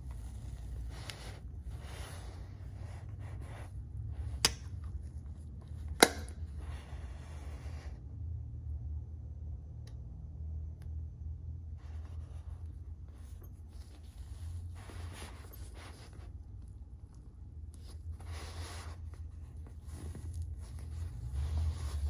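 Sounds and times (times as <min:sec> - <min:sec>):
leather rustling: 0:00.0 - 0:07.6, 0:11.9 - 0:22.0
steady low hum: 0:00.0 - 0:22.0.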